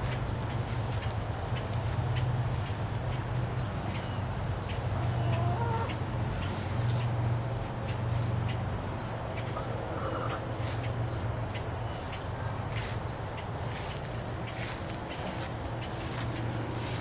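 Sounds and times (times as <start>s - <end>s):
chickens clucking: 0.0s - 17.0s
steady low hum: 0.0s - 17.0s.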